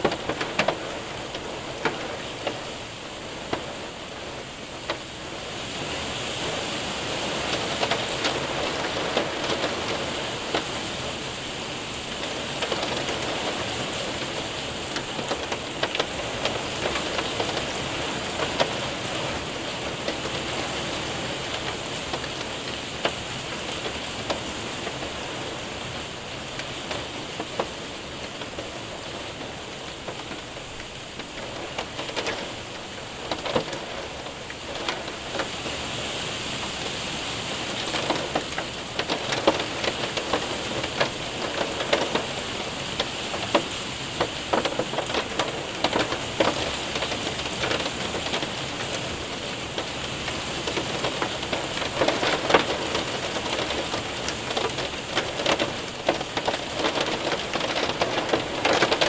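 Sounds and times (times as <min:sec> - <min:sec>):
hailstones clicking: 0:00.0 - 0:05.2, 0:06.0 - 0:11.2, 0:11.9 - 0:35.9, 0:36.6 - 0:59.0
heavy rain hissing: 0:00.0 - 0:59.0.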